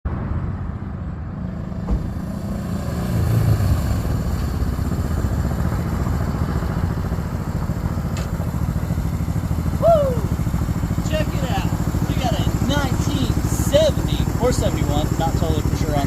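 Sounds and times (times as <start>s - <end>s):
motorcycle engine running: 1.6s - 16.0s.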